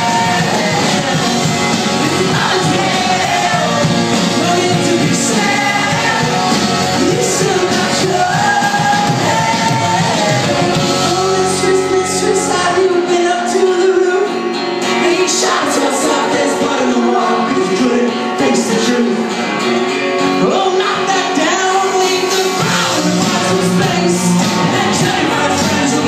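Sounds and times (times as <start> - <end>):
lead and backing singing: 0.0 - 26.0
rock band playing live: 0.0 - 26.0.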